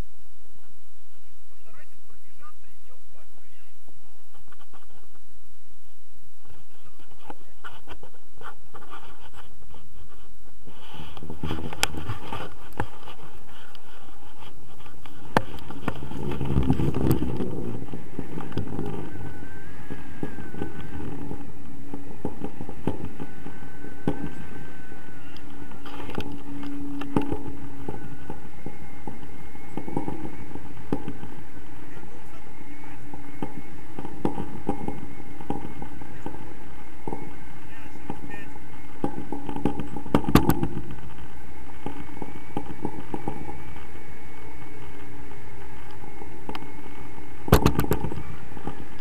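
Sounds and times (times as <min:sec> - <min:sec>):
wind rushing over microphone: 0:03.6 - 0:49.0.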